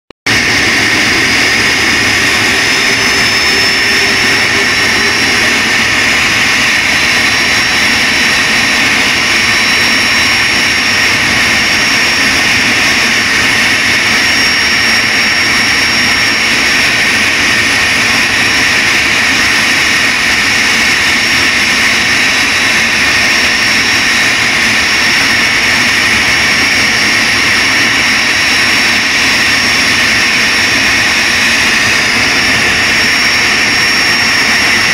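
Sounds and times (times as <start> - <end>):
high-pitched turbine whine: 0.3 - 34.9
jet engines running: 0.3 - 34.9.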